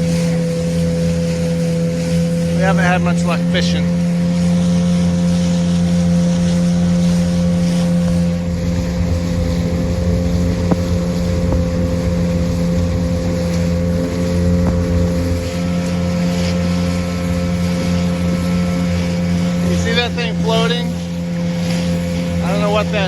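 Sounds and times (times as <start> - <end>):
motorboat engine humming: 0.0 - 23.0.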